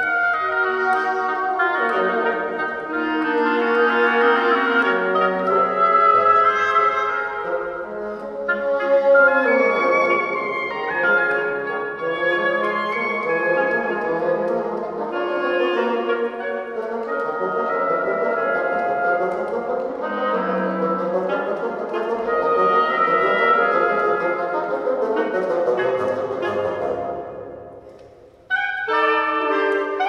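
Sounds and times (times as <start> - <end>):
woodwind trio playing: 0.0 - 30.0.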